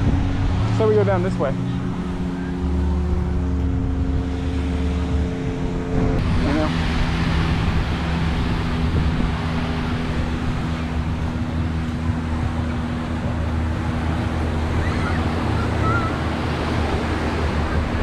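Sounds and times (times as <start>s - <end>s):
low hum: 0.0s - 18.0s
ocean surf washing ashore: 0.0s - 18.0s
wind buffeting microphone: 0.0s - 18.0s.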